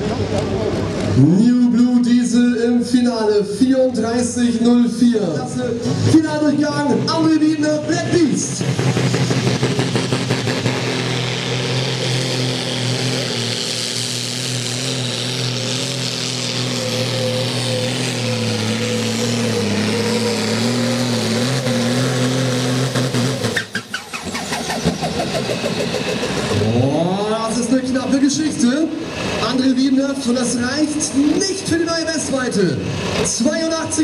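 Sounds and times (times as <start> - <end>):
diesel tractor engine droning: 0.0 - 34.0.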